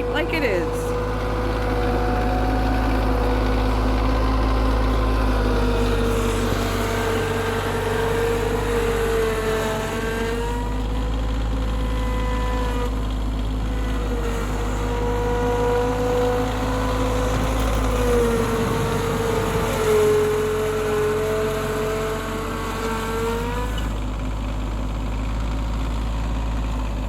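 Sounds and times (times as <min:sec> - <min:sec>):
tractor engine running: 0:00.0 - 0:10.0, 0:12.9 - 0:27.0.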